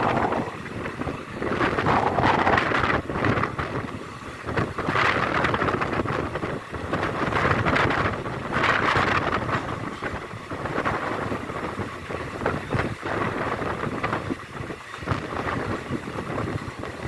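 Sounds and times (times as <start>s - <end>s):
passenger train running: 0.0s - 17.0s
wind buffeting microphone: 0.0s - 17.0s.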